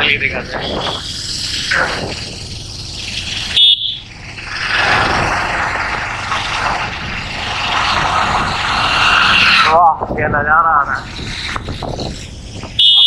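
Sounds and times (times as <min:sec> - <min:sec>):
wind rush over microphone: 0:00.0 - 0:02.6, 0:04.8 - 0:12.8
motorcycle engine: 0:00.0 - 0:13.0.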